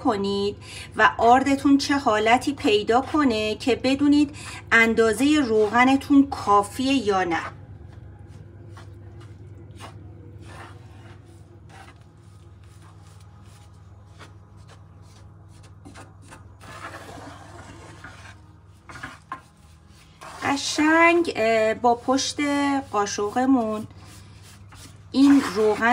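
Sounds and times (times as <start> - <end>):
wooden spoon scraping frying pan: 2.3 - 7.6, 8.2 - 25.9.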